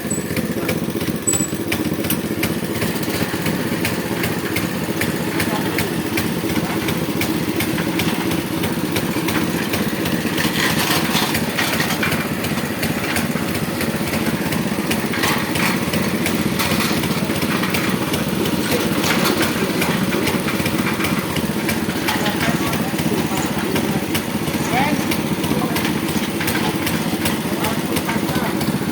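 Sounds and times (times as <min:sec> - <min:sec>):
drilling machine engine running: 0:00.0 - 0:28.9.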